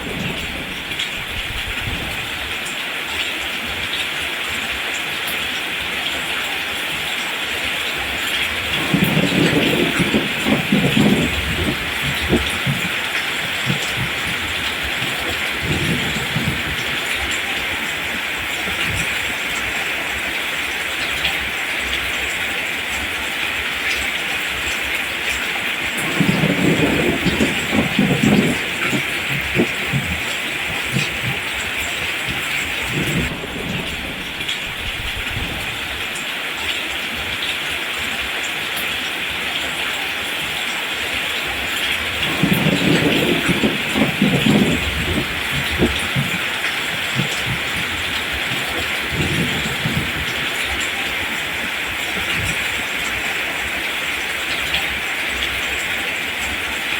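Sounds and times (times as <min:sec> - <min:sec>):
thunder rumbling: 0:00.0 - 0:03.9, 0:08.0 - 0:37.4, 0:41.4 - 0:56.8
heavy rain on plants: 0:00.0 - 0:56.9.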